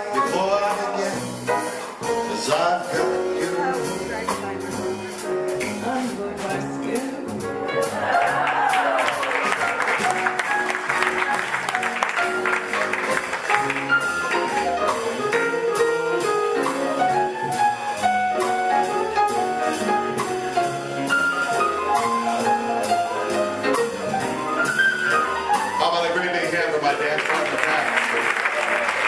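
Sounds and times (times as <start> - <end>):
drum kit cymbal beat: 0.0 - 26.8
piano: 0.0 - 29.0
upright bass: 0.0 - 29.0.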